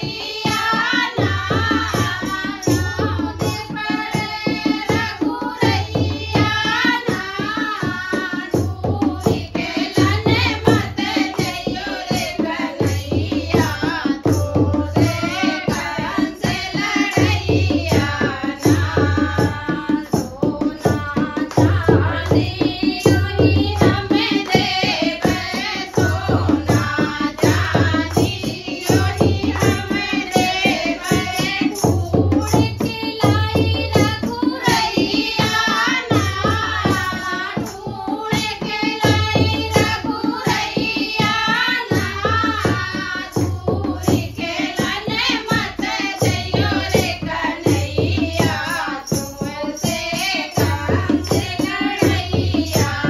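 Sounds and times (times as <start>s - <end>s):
hand drum beating: 0.0s - 53.0s
women singing folk song: 0.0s - 53.0s.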